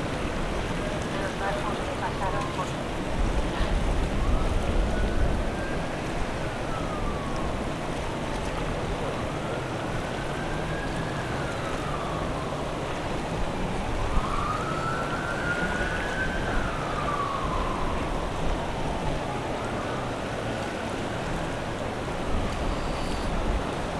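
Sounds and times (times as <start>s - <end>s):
wind and water rush: 0.0s - 23.9s
emergency vehicle siren wailing: 0.2s - 3.1s, 3.8s - 22.7s.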